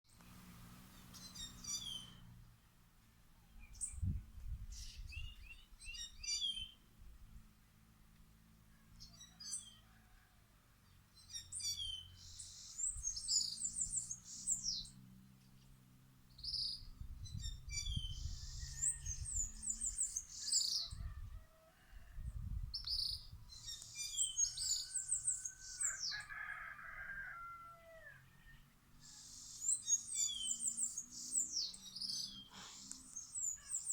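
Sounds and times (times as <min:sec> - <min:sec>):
wild birds chirping and trilling: 0:00.4 - 0:02.6, 0:08.4 - 0:33.9.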